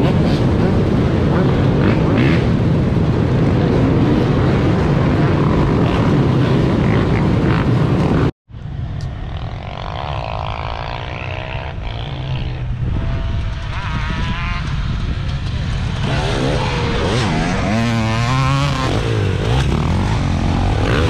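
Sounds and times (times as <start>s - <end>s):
dirt bike engine revving: 0.0s - 8.3s, 9.1s - 21.0s
many dirt bike engines: 0.0s - 21.0s.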